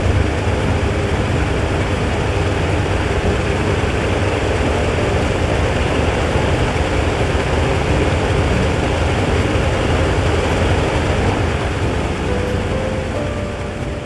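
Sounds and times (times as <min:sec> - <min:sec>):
radial aircraft engine running: 0:00.0 - 0:14.0.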